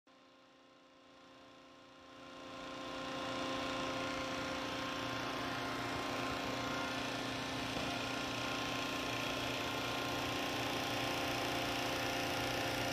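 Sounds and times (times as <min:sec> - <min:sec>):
hydraulic machine running: 0:01.5 - 0:12.9.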